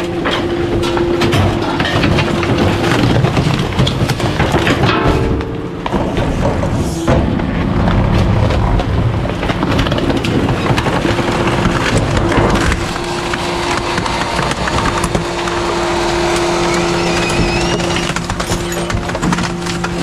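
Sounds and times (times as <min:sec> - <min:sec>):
furniture cracking and clattering: 0:00.0 - 0:20.0
garbage truck engine and hydraulics hum: 0:00.0 - 0:20.0.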